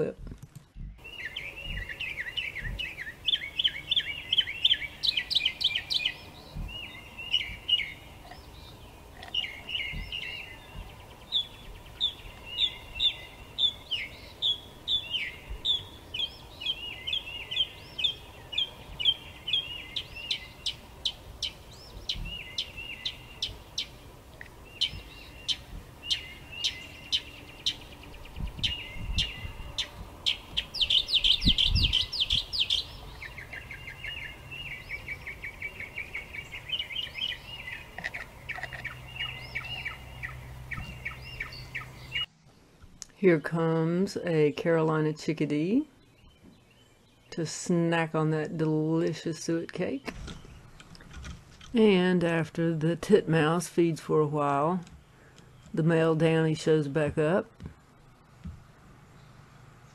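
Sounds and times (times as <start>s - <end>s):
bird singing varied phrases: 0.0s - 42.3s, 43.2s - 50.8s.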